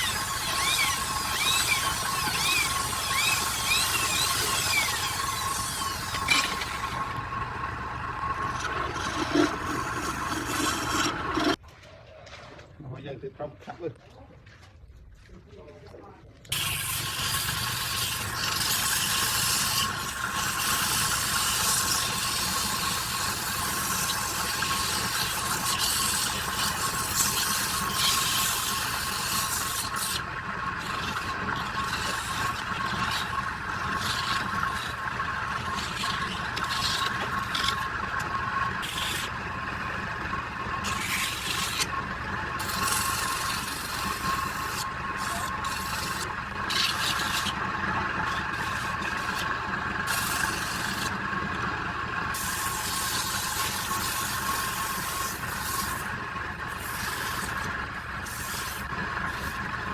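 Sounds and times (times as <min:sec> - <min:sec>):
tool scraping spinning wood: 0:00.0 - 0:11.6, 0:16.5 - 0:59.9
wood lathe whining: 0:00.0 - 0:11.6, 0:16.6 - 0:59.9.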